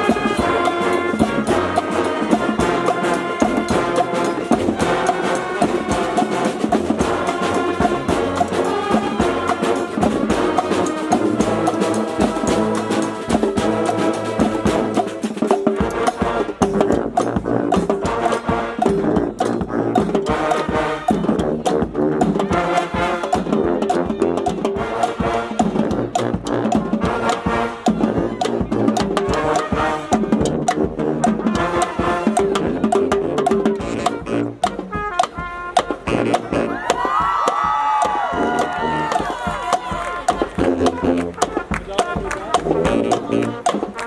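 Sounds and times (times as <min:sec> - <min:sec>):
drums keeping a steady beat: 0:00.0 - 0:44.0
trumpets and trombones: 0:00.0 - 0:44.0.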